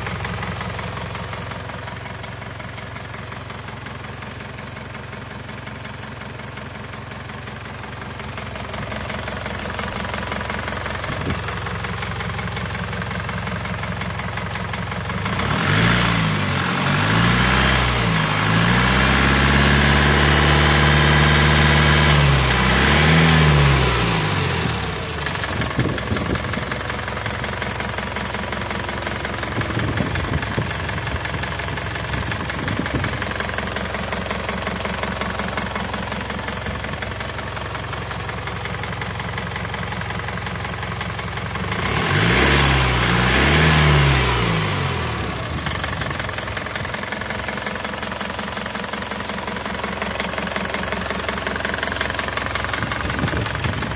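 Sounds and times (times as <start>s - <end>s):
diesel engine revving and idling: 0.0s - 53.9s.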